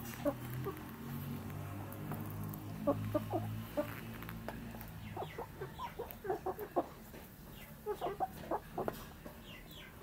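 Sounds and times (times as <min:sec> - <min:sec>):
chickens clucking: 0:00.0 - 0:01.1, 0:02.6 - 0:10.0.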